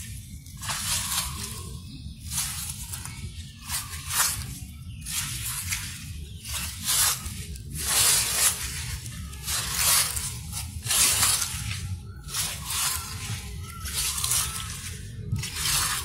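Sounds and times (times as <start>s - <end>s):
footsteps crunching dry leaves: 0.0s - 16.0s.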